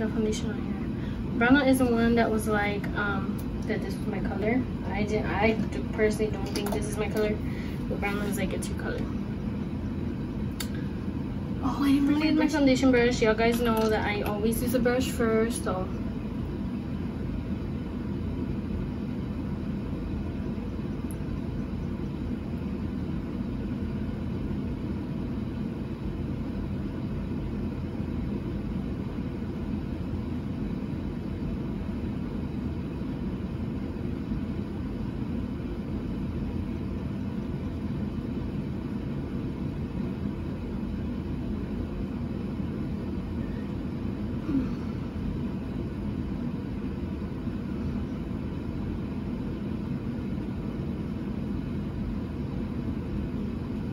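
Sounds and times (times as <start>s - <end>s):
low room rumble: 0.0s - 53.9s.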